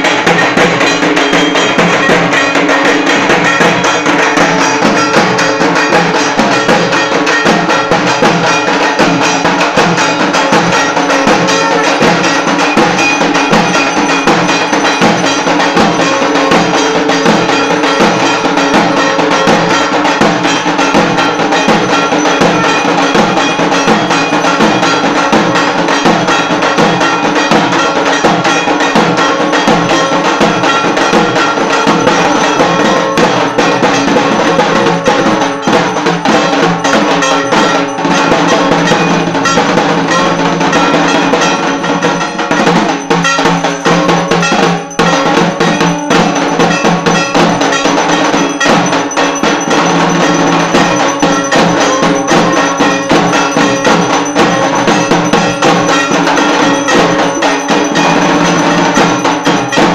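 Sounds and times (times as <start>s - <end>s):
bells and hand cymbals clanging: 0.0s - 59.9s.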